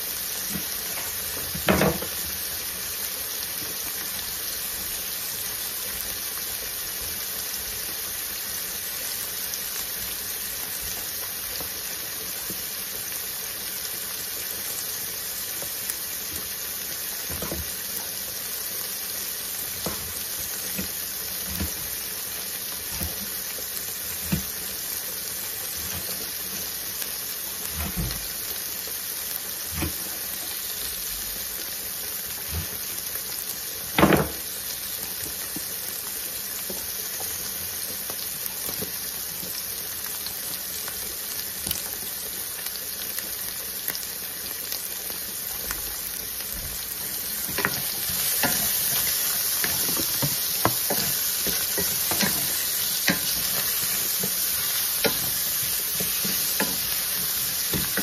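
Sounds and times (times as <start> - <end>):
sausage sizzling in a pan: 0.0 - 58.0.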